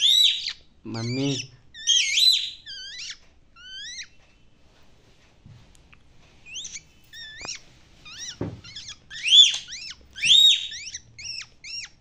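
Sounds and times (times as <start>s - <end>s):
parakeet chirping calls: 0.0s - 4.2s, 6.4s - 12.0s.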